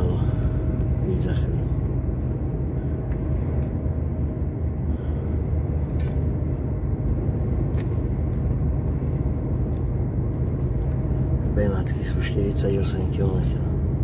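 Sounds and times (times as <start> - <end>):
diesel engine rumble: 0.0 - 14.0
road noise: 0.0 - 14.0.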